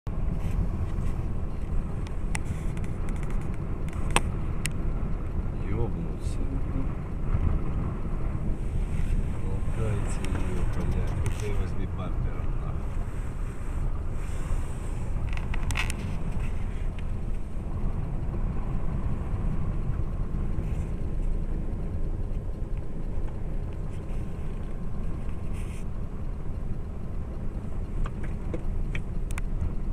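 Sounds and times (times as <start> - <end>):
car road noise: 0.0 - 29.9
wind: 0.0 - 29.9.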